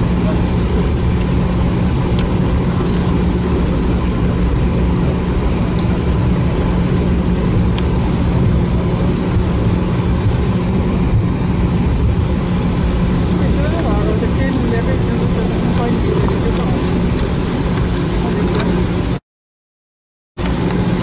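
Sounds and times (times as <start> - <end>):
aircraft engine noise: 0.0 - 19.2, 20.4 - 21.0
constant low hum: 0.0 - 19.2, 20.4 - 21.0.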